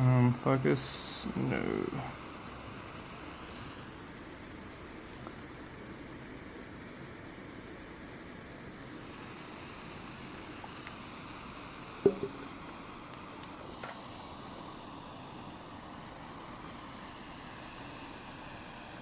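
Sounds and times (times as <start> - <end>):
faint hiss with high whine: 0.0 - 19.0.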